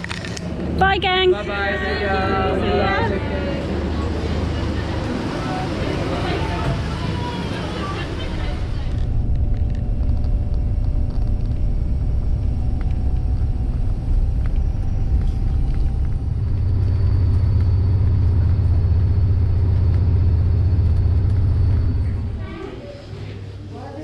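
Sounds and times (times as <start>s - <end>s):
faint hum: 0.0s - 24.0s
low engine rumble: 0.0s - 24.0s.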